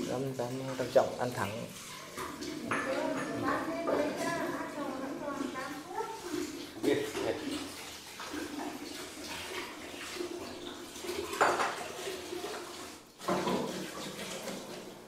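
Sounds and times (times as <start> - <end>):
dishes clattering in sink: 0.0 - 15.0
water running: 0.0 - 15.0.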